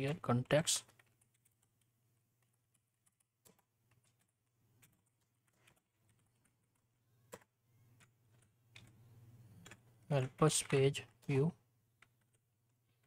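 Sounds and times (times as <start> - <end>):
keyboard typing: 0.0 - 13.0
faint low hum: 0.1 - 13.0.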